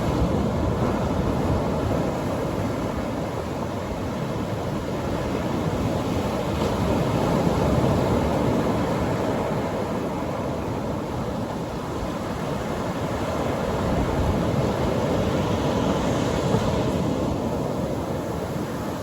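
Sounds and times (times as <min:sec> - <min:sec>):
surf breaking on the beach: 0:00.0 - 0:19.0.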